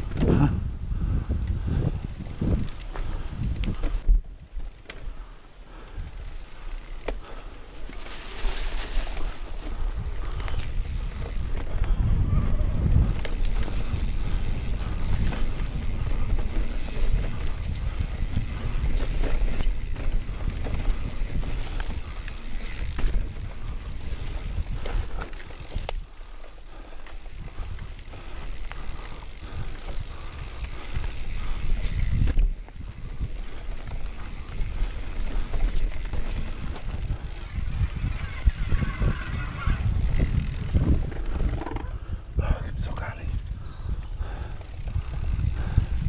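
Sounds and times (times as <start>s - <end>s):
wind buffeting microphone: 0.0s - 4.8s, 8.4s - 46.0s
bike knocking and rattling: 1.2s - 42.1s, 43.5s - 46.0s.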